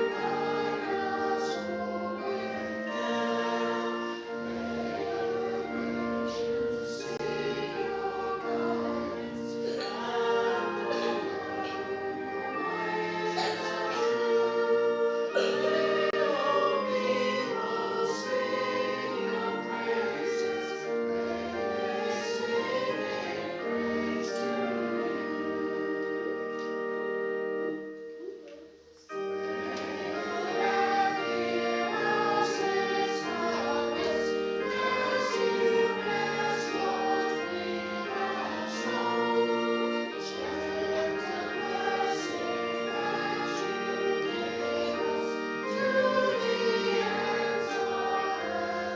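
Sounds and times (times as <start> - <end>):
congregation singing a hymn: 0.0 - 48.9
keyboard accompaniment: 0.0 - 48.9.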